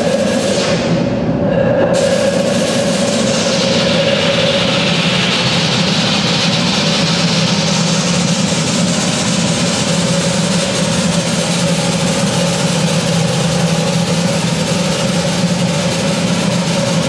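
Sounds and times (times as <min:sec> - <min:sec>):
dense electronic hiss: 0:00.0 - 0:17.0
low electronic hum drone: 0:00.0 - 0:17.0.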